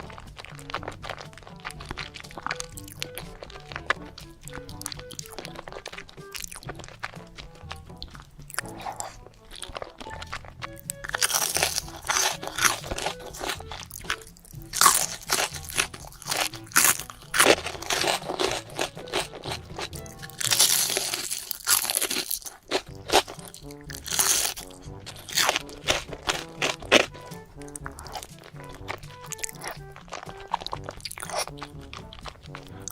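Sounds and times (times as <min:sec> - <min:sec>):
person chewing crunchy food: 0:00.0 - 0:32.9.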